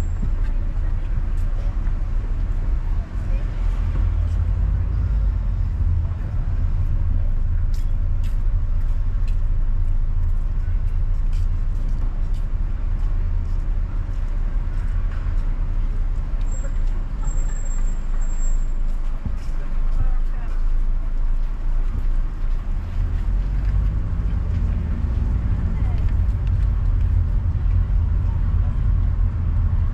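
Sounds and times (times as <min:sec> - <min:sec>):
car driving in traffic: 0:00.0 - 0:29.9.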